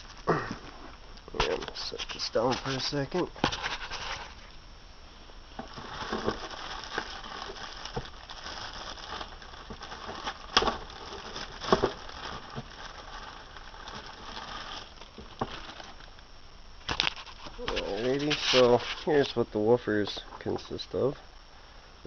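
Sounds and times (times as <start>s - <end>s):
packaging rustling and crinkling: 0.0s - 4.6s, 5.5s - 16.2s, 16.8s - 19.4s.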